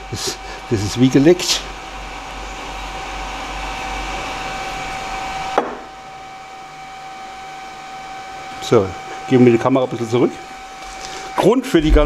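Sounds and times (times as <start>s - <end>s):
high steady whine: 0.0s - 12.0s
whooshing workshop machine: 0.0s - 12.0s.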